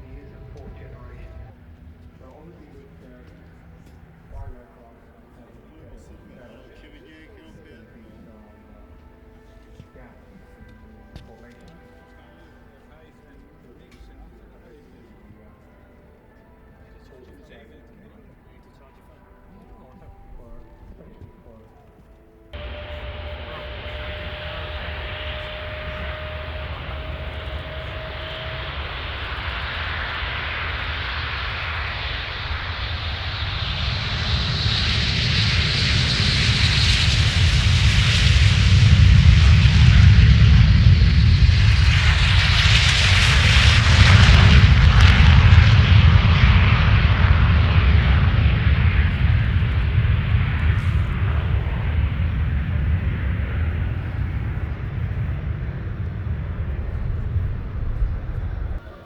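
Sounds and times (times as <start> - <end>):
jet engines flying past: 0.0 - 11.6, 22.6 - 59.0.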